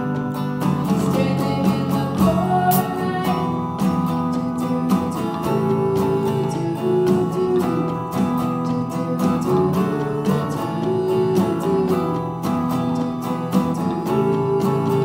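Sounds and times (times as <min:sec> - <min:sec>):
drum kit beat: 0:00.0 - 0:15.0
electric guitar chords: 0:00.0 - 0:15.0.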